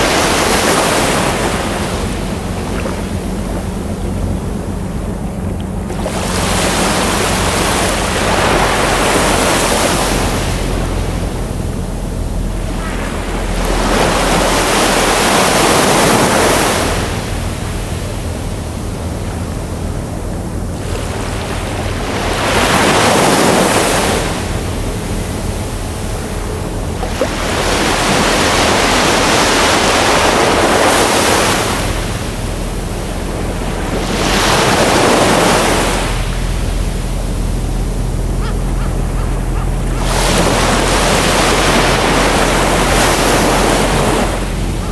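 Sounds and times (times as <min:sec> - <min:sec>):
ocean waves washing: 0:00.0 - 0:44.9
steady low rumble: 0:00.0 - 0:44.9.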